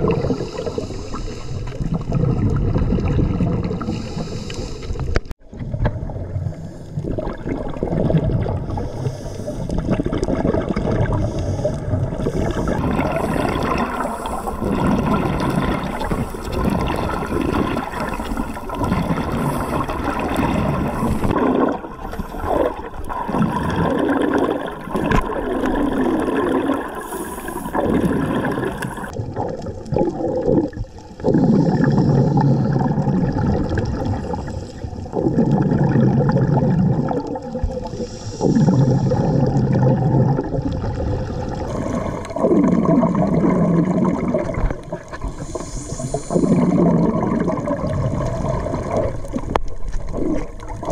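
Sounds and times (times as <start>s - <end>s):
muffled underwater rushing: 0.0s - 50.9s.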